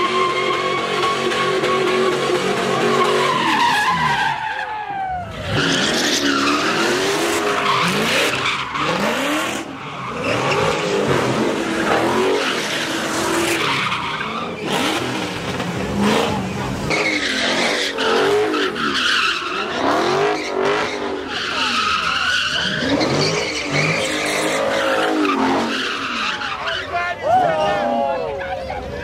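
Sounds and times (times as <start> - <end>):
car engine revving: 0.0 - 4.2, 5.3 - 26.6
tyres squealing: 0.0 - 27.2.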